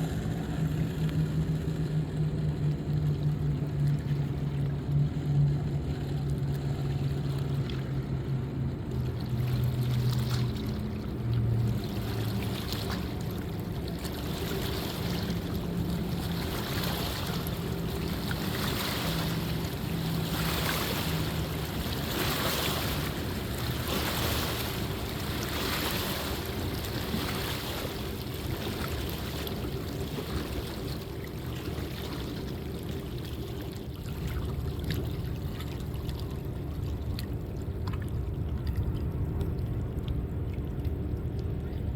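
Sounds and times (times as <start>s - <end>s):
motorboat engine droning: 0.0s - 41.9s
water washing in swells: 0.0s - 41.9s.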